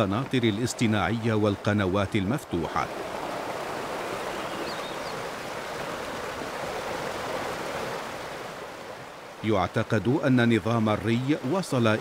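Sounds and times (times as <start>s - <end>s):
water rushing along a channel: 0.0s - 12.0s.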